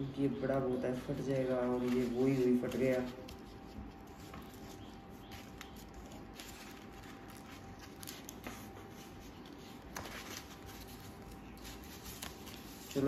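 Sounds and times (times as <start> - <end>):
sharp paper crackles: 0.0 - 13.0
stiff paper rustling and crinkling: 0.0 - 13.0.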